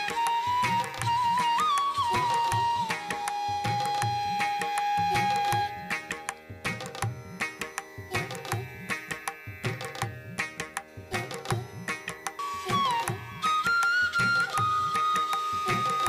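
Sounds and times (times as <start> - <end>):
held instrument tones: 0.0 - 16.0
tabla drumming: 0.0 - 16.0.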